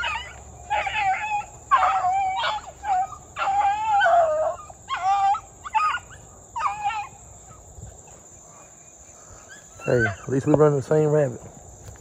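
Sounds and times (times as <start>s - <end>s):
hounds baying: 0.0s - 10.8s.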